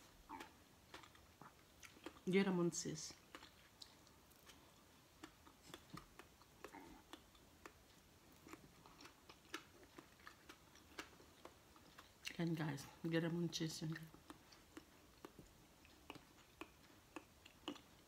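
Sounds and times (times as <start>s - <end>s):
chewing with wet mouth clicks: 0.3s - 2.4s, 3.1s - 12.5s, 13.8s - 18.0s.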